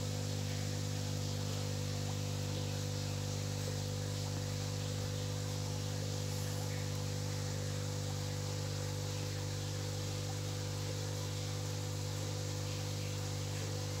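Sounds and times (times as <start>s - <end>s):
steady low hum with hiss: 0.0s - 14.0s.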